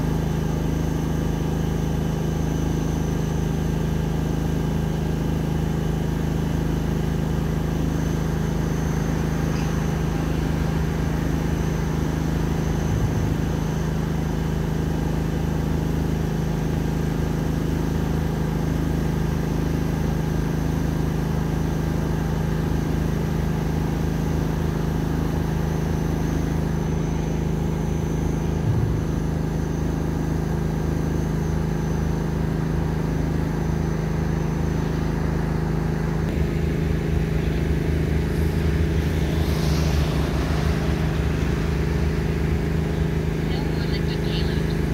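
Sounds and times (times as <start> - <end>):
mechanical hum: 0.0 - 44.9.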